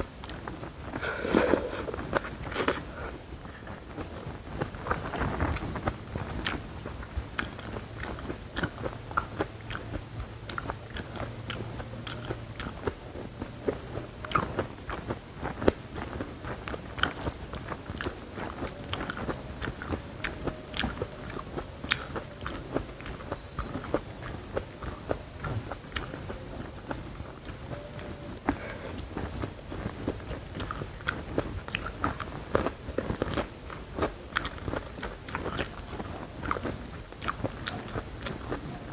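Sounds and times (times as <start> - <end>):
chewing crunchy food: 0.0 - 38.9.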